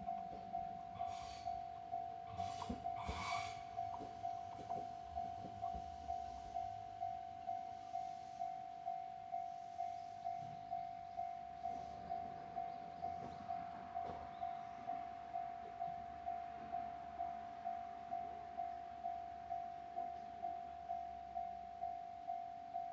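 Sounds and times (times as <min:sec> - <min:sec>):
level crossing alarm clanging: 0:00.0 - 0:22.9.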